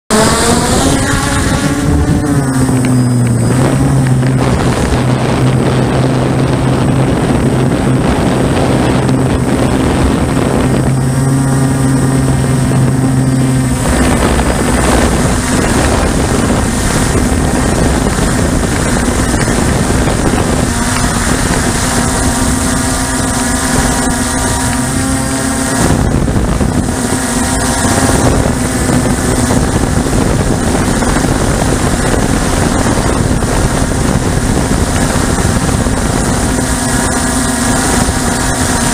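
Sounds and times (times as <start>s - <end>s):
model aircraft motor whine: 0.1s - 38.9s
wind rushing over microphone: 0.1s - 38.9s.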